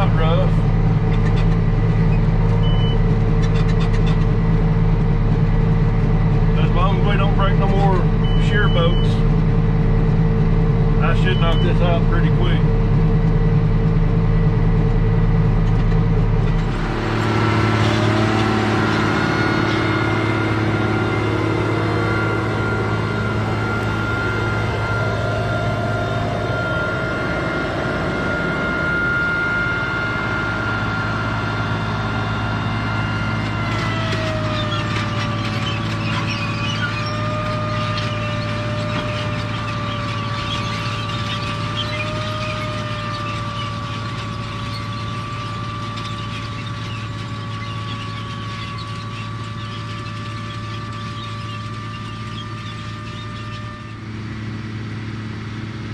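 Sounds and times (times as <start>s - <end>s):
steady whine: 0.0s - 49.6s
lower whine: 0.0s - 55.9s
tractor diesel engine drone: 0.0s - 55.9s.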